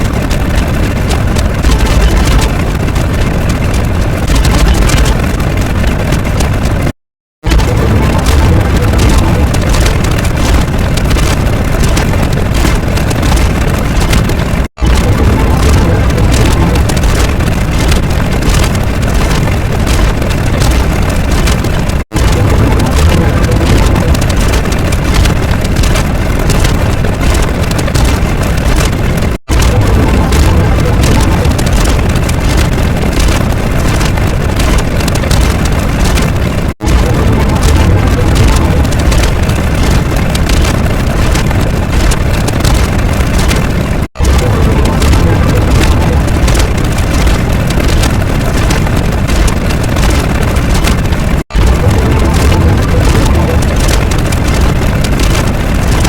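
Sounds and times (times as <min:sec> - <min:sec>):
crackles: 0:00.0 - 0:56.0
loud low rumbling: 0:00.0 - 0:56.0.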